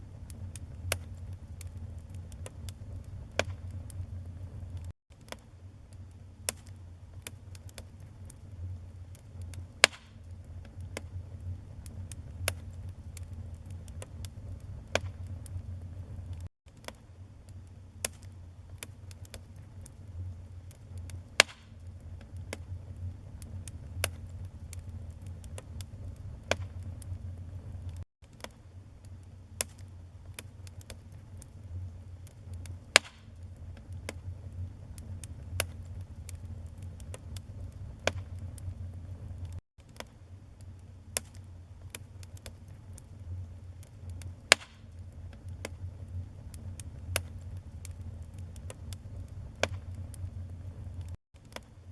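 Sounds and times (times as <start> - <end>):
wood fire crackling and popping: 0.0 - 51.7
low rumble of flames: 0.0 - 51.9.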